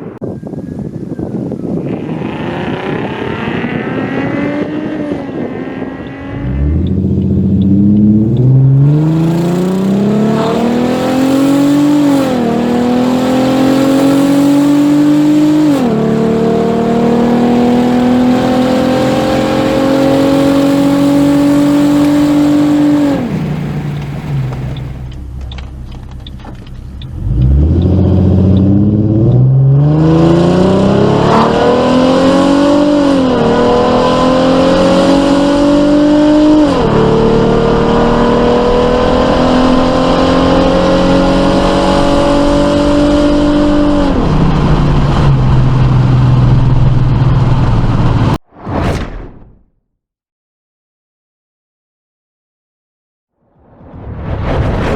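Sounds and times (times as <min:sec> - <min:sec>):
car engine accelerating: 0:01.9 - 0:48.4.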